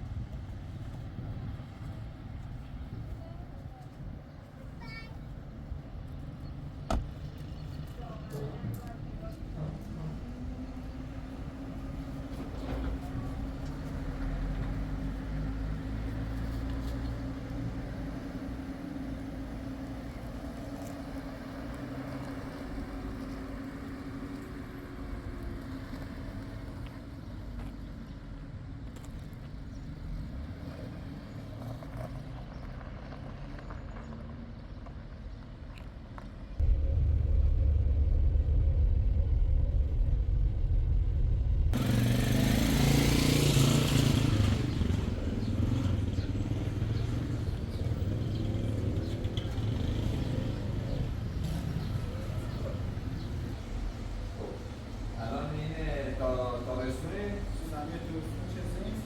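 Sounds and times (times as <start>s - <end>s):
motor vehicle engine rumbling: 0.0s - 35.4s, 36.3s - 59.0s.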